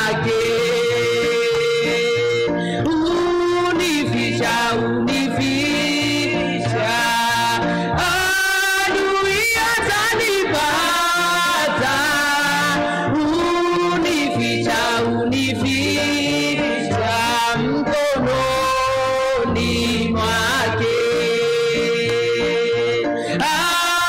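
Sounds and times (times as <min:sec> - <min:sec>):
congregation singing: 0:00.0 - 0:24.0.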